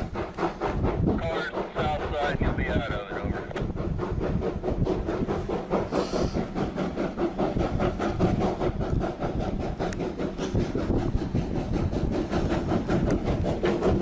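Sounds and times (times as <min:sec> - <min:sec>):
train clattering on rails: 0:00.0 - 0:14.0.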